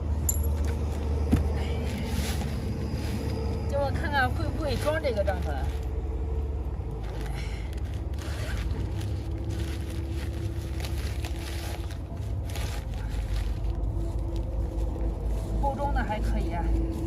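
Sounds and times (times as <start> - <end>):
steady low rumble: 0.0 - 17.0
tent fabric rustling and scraping: 0.4 - 17.0.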